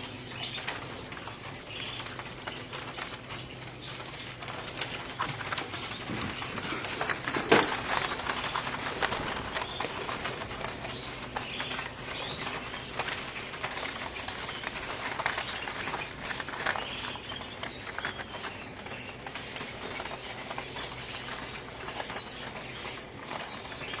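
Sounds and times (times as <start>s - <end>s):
canaries chirping: 0.0s - 24.0s
steady low hum: 0.0s - 24.0s
wings fluttering: 0.0s - 24.0s.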